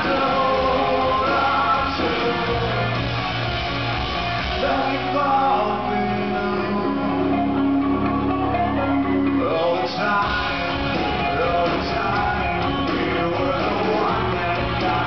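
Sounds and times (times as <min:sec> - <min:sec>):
man singing: 0:00.0 - 0:03.2, 0:04.4 - 0:07.8, 0:09.1 - 0:15.0
rock band playing ballad: 0:00.0 - 0:15.0.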